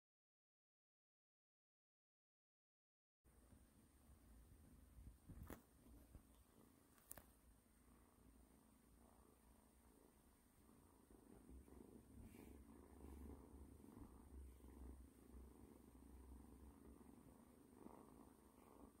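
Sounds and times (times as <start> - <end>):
kitten purring: 3.3 - 19.0.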